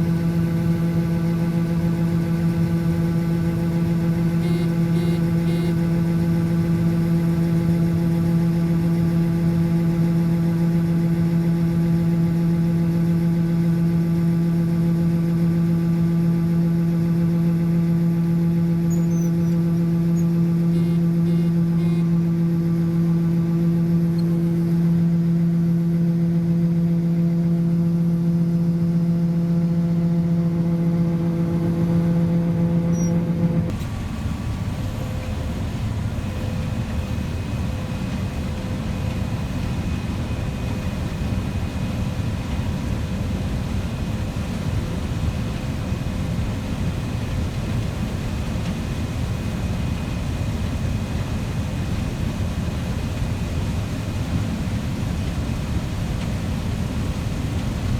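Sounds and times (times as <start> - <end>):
farm machinery engine hum: 0.0 - 57.9
machine noise with high whine: 0.0 - 57.9.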